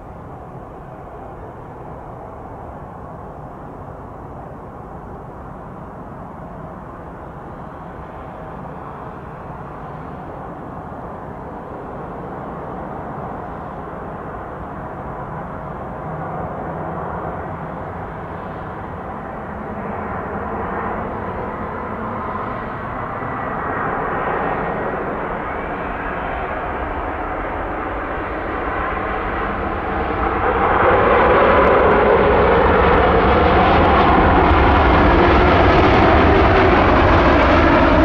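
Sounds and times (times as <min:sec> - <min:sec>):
jet airliner engines: 0:00.0 - 0:38.0.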